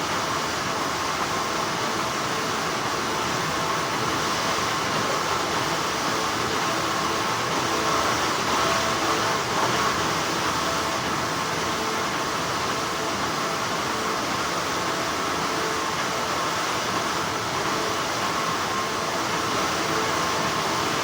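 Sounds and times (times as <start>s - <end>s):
factory machinery humming: 0.0s - 21.0s.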